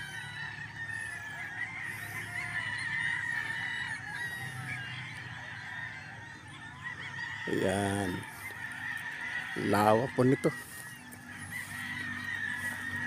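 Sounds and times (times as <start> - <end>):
chorus of birds chirping: 0.0 - 13.0.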